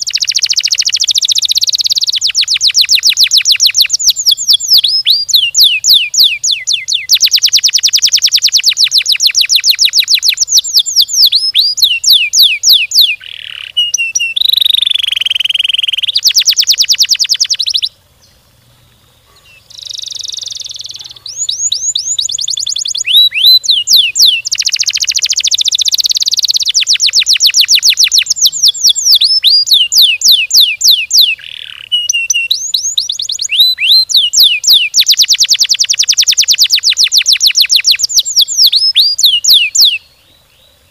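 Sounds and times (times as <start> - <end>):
canary singing rolls: 0.0 - 40.0.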